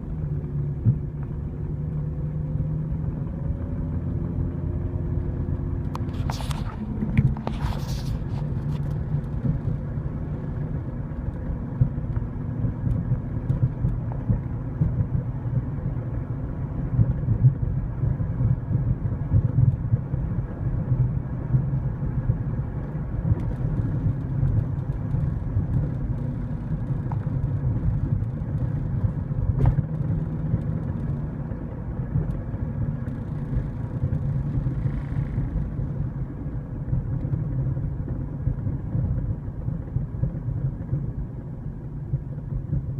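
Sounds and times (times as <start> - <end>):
car drivetrain low rumble: 0.0 - 42.9.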